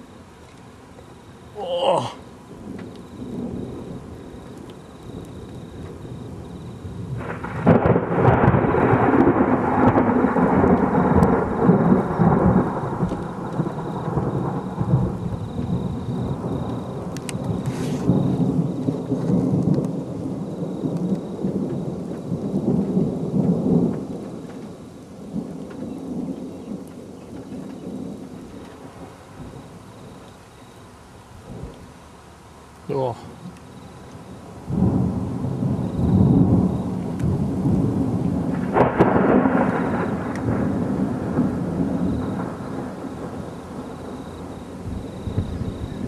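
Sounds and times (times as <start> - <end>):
rolling thunder: 2.6 - 30.2, 34.3 - 46.0.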